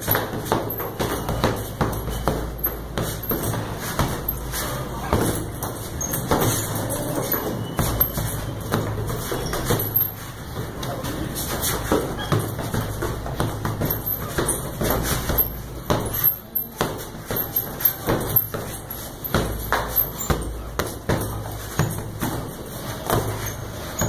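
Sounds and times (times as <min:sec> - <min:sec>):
fists punching heavy bag: 0:00.0 - 0:24.0.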